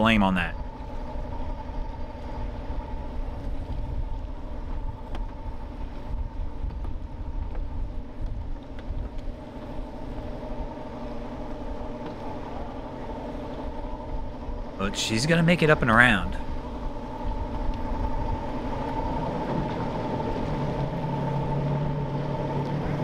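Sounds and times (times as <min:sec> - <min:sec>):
motorboat engine idling: 0:00.0 - 0:23.0.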